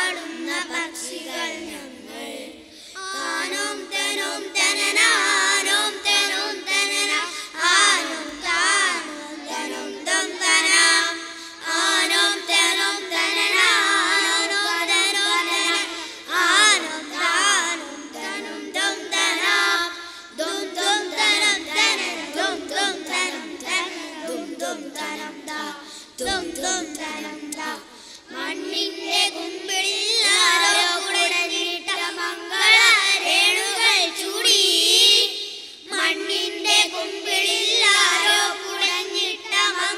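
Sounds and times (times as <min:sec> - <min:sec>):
boys singing in unison: 0:00.0 - 0:39.9.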